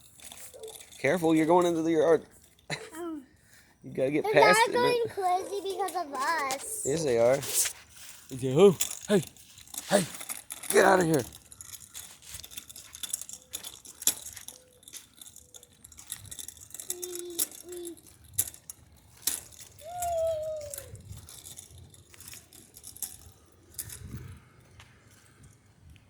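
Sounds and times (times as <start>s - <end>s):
bicycles clicking and rattling: 0.0s - 26.0s.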